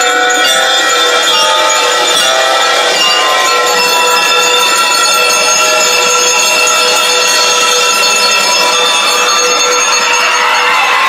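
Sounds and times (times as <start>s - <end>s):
bell lyres ringing: 0.0s - 11.0s.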